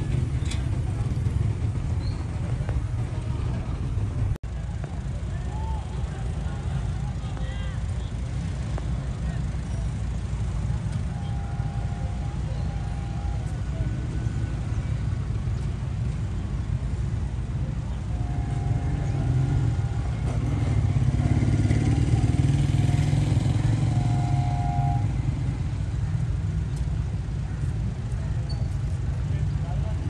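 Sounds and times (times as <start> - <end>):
vehicle engine rumble: 0.0 - 30.0.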